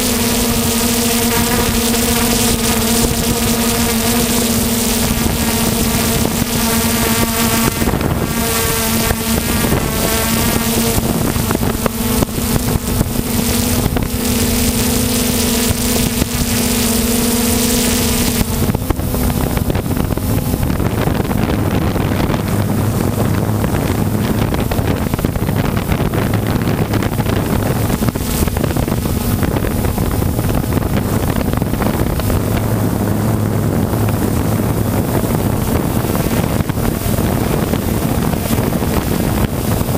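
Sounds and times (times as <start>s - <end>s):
quadcopter propellers humming: 0.0s - 39.9s
wind on microphone: 0.0s - 39.9s.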